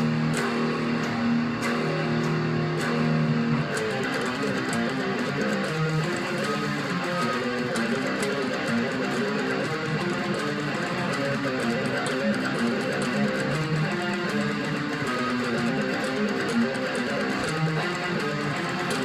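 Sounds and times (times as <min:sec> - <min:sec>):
guitar strumming chords: 0:00.0 - 0:19.0.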